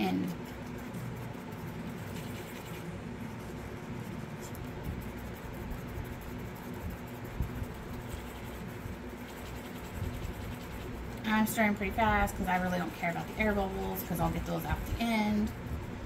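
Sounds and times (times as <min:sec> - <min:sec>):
stir stick scraping plastic cup: 0:00.0 - 0:16.0.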